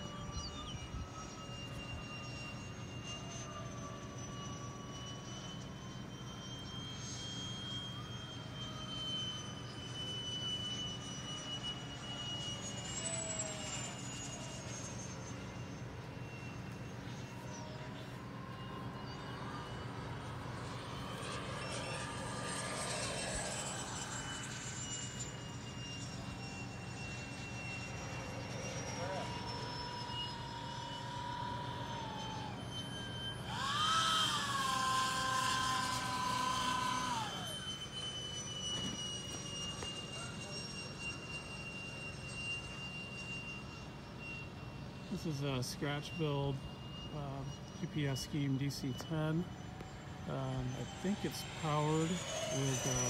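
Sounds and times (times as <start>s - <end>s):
low hum: 0.0s - 53.0s
model jet fan whine: 0.0s - 53.0s.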